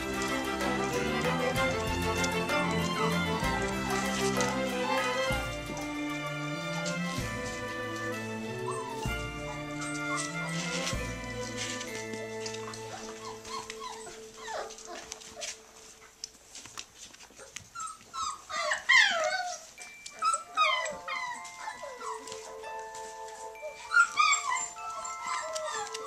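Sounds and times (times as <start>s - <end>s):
background music with held notes: 0.0s - 16.8s, 18.1s - 26.0s
puppies whining and yipping: 0.0s - 26.0s.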